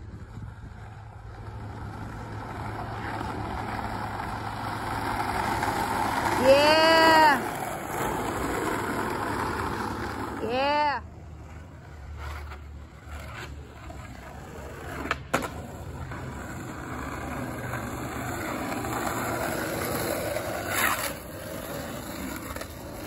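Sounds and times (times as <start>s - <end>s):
skateboard wheels rolling on asphalt: 0.0s - 23.0s.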